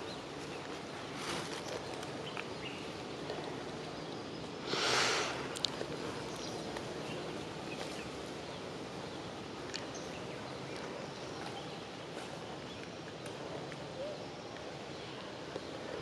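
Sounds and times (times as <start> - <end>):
rustles and clicks in leaves: 0.0 - 16.0
steady background hiss: 0.0 - 16.0.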